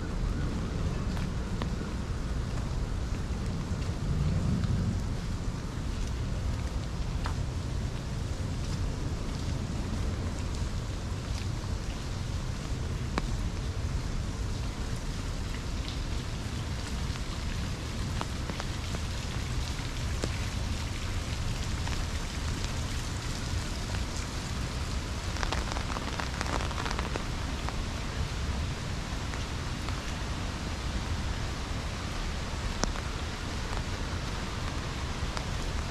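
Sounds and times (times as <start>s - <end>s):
steady rain falling: 0.0s - 35.9s.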